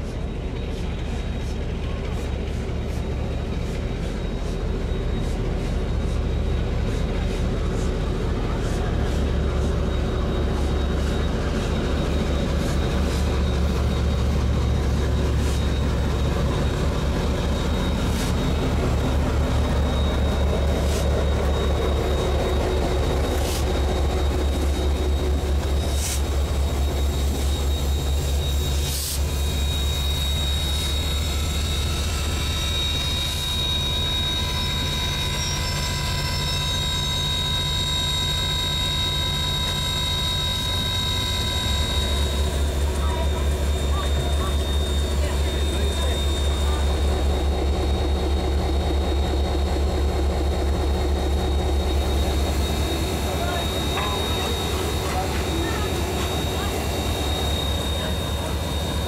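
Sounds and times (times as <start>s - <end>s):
train rumbling: 0.0s - 59.0s
wheels squealing on rails: 0.0s - 59.0s.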